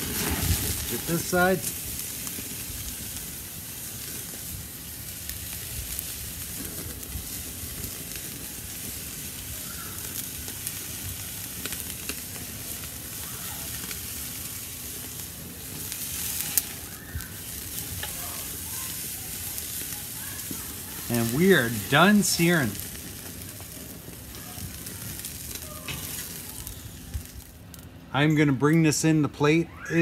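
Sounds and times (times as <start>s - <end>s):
small crackles: 0.0s - 28.1s
meat sizzling over charcoal: 0.0s - 30.0s.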